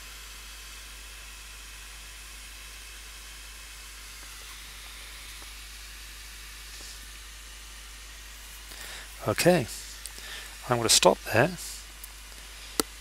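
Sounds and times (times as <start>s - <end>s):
recording hiss: 0.0s - 13.0s.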